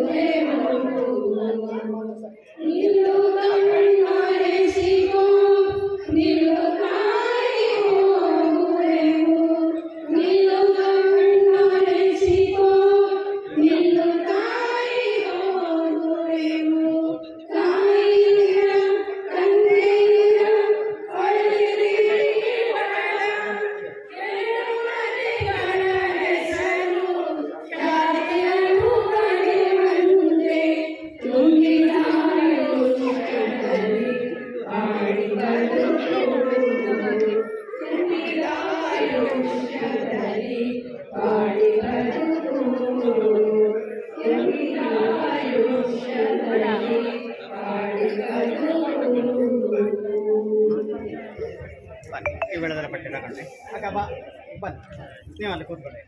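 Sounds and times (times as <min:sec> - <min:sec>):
slow chant-like singing: 0:00.0 - 0:52.4.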